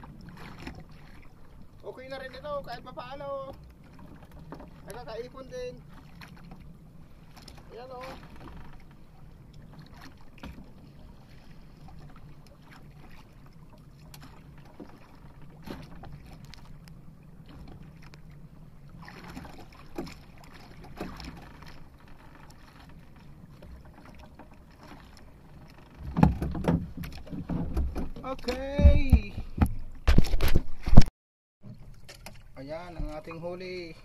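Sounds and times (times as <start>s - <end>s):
boat engine rumble: 0.0s - 31.0s, 31.6s - 34.0s
sea noise: 0.0s - 31.0s, 31.6s - 34.0s
faint knocks and rustles: 3.5s - 5.0s, 5.9s - 33.3s.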